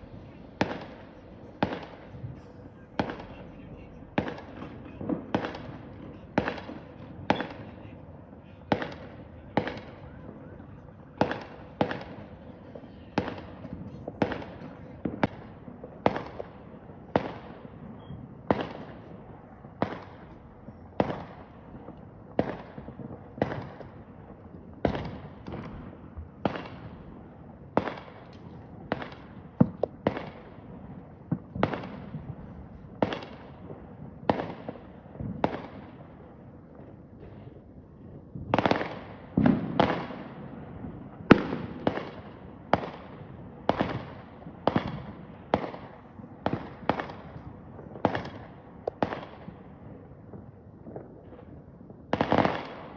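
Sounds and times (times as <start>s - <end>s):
fireworks bangs echoing: 0.0s - 52.9s.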